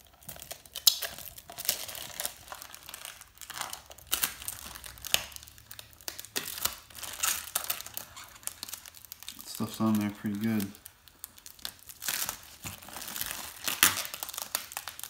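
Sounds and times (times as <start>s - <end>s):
plastic film crinkling: 0.0s - 15.0s.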